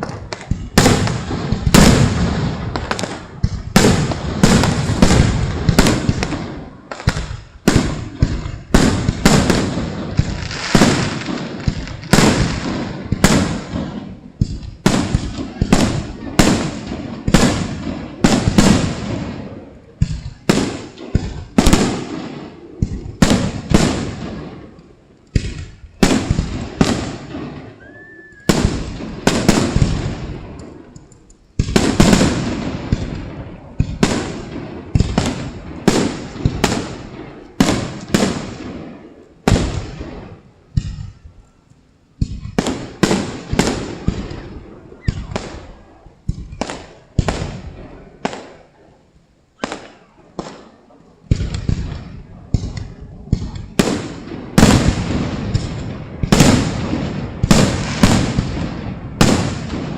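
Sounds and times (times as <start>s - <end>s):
fireworks booming: 0.0s - 41.5s, 42.1s - 48.8s, 49.5s - 59.9s.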